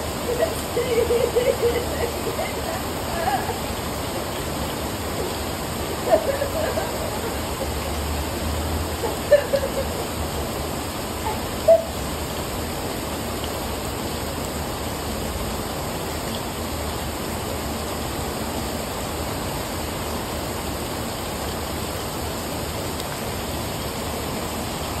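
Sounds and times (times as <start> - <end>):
heavy rain on patio and foliage: 0.0 - 25.0.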